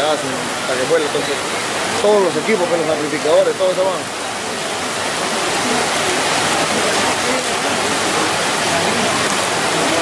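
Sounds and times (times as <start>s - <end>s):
faint crowd voices: 0.0s - 10.0s
heavy rain falling: 0.0s - 10.0s.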